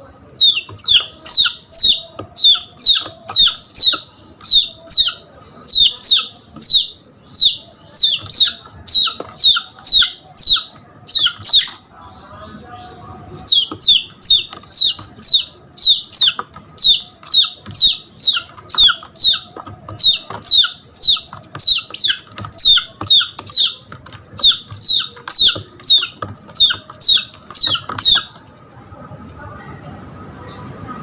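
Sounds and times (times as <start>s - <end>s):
chick peeping: 0.0s - 29.5s.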